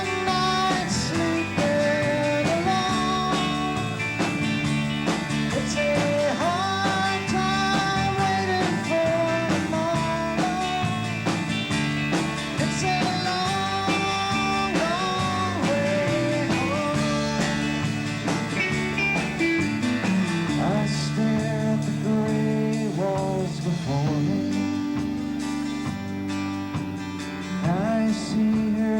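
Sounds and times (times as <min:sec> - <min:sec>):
rock band playing: 0:00.0 - 0:28.9.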